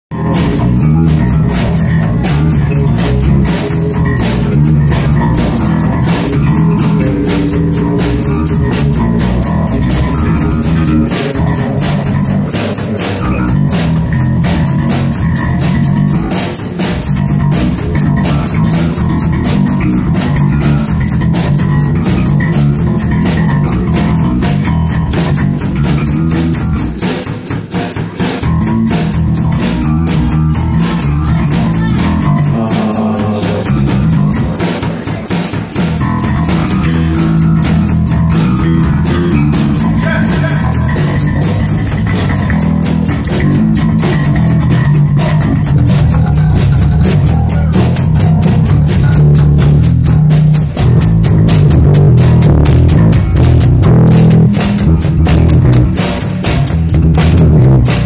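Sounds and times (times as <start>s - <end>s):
electric bass line: 0.0s - 58.0s
drum kit with cymbals: 0.1s - 58.0s.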